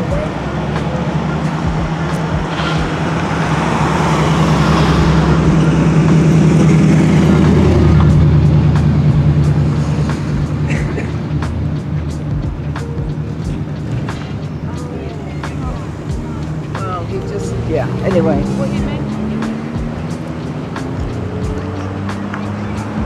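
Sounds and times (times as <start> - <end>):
car engine passing by: 0.0 - 23.0.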